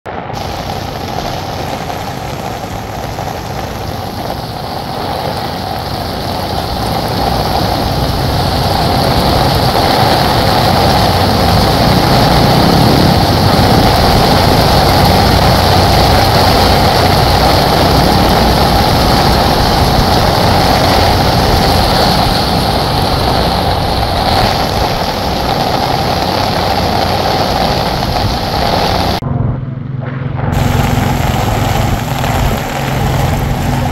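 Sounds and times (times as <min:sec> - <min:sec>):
heavy rain: 0:00.1 - 0:29.2, 0:30.5 - 0:33.9
water splashing: 0:00.4 - 0:29.2, 0:30.5 - 0:33.9
motorcycle engines running: 0:00.4 - 0:33.9.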